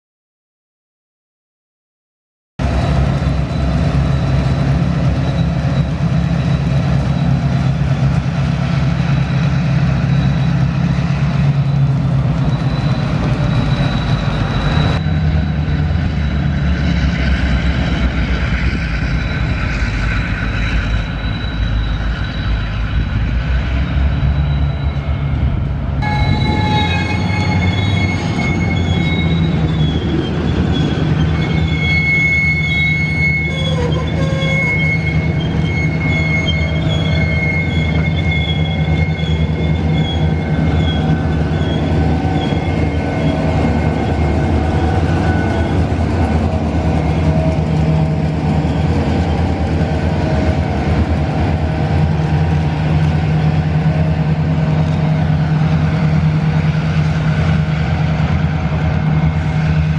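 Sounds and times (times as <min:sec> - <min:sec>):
diesel locomotive rumbling: 0:02.6 - 0:59.9
wheel flanges squealing: 0:02.7 - 0:59.9.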